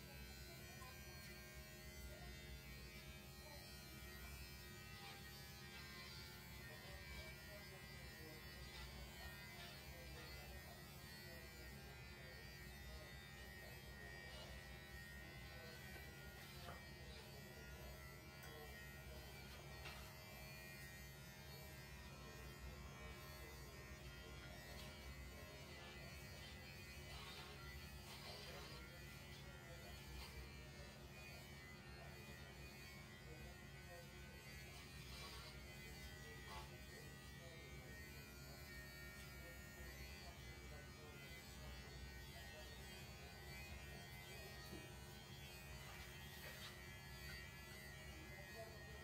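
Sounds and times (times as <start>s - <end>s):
electric hair clippers buzzing: 0.0s - 49.0s.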